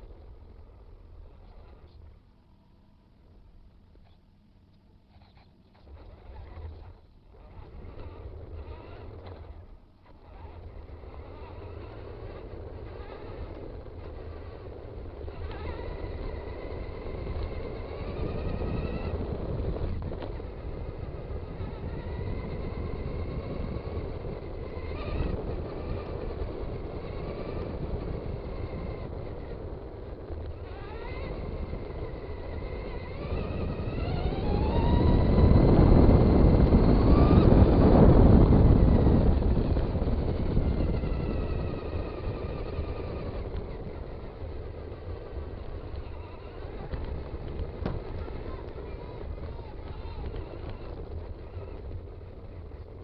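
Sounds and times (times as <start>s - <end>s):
electric motor whining: 0.0s - 53.0s
tyre and road rumble: 0.0s - 53.0s.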